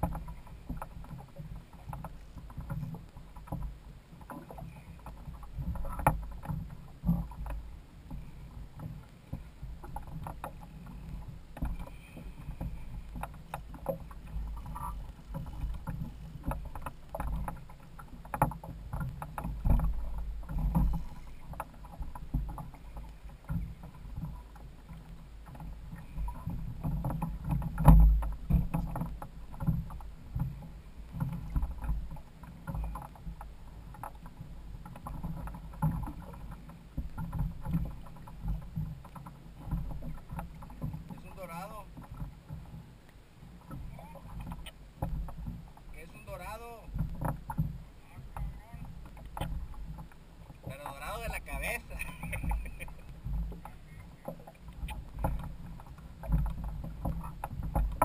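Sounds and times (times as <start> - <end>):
sharp knocks on a hull: 0.0 - 8.2, 11.6 - 24.6, 25.5 - 42.7, 43.7 - 58.0
water lapping against a hull: 0.0 - 58.0.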